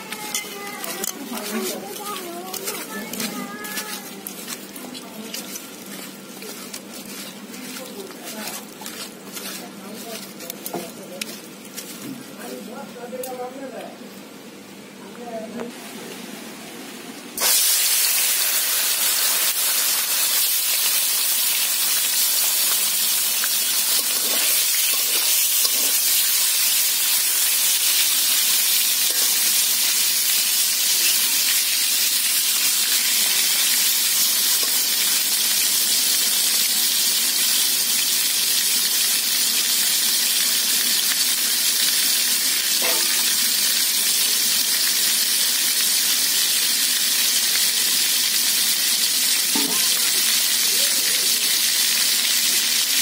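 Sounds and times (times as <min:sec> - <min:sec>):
fish sizzling in hot oil: 0:00.0 - 0:12.0, 0:17.4 - 0:53.0.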